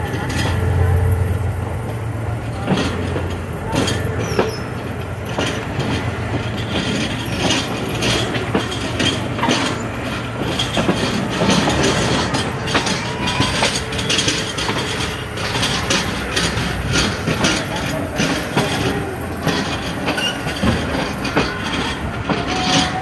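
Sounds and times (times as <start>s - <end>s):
train rumbling: 0.0s - 23.0s
wheels clacking over rail joints: 0.0s - 23.0s.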